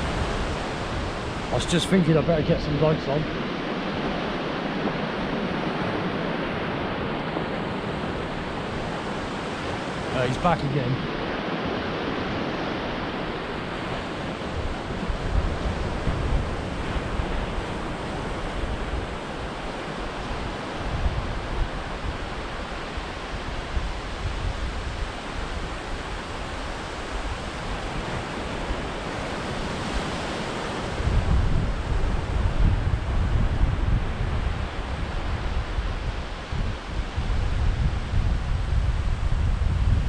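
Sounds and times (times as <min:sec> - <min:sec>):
small waves breaking on beach: 0:00.0 - 0:40.0
wind buffeting microphone: 0:00.0 - 0:40.0.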